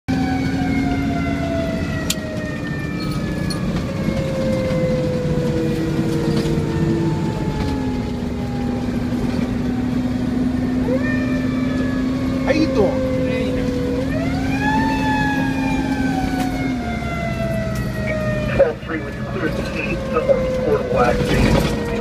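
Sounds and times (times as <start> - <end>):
fire truck siren: 0.1 - 22.0
truck engine droning: 0.1 - 22.0.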